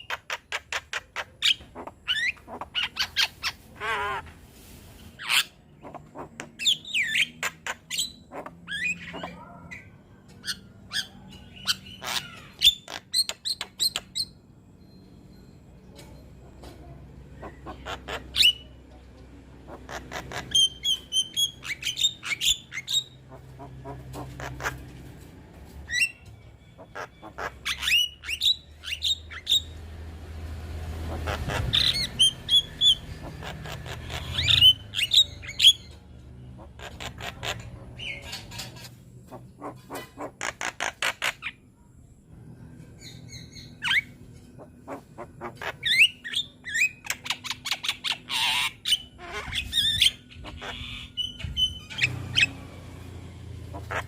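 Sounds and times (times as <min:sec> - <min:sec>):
myna bird singing: 0:00.0 - 0:04.3, 0:05.0 - 0:54.0.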